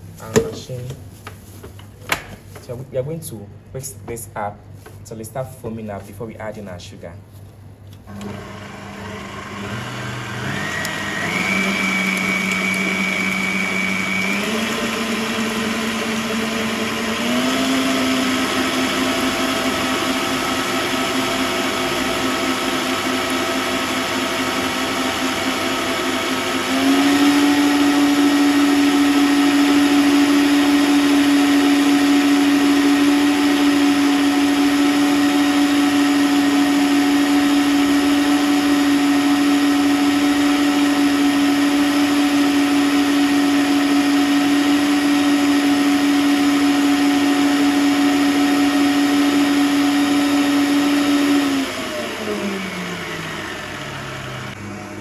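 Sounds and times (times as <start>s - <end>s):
stand mixer motor whine: 8.1s - 55.0s.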